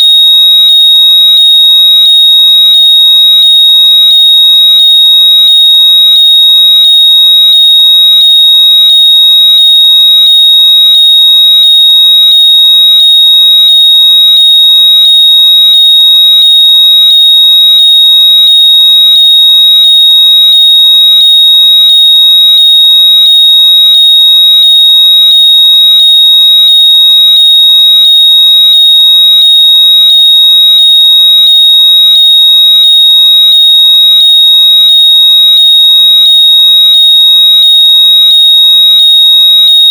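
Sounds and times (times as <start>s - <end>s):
high-pitched electronic tone: 0.0s - 39.9s.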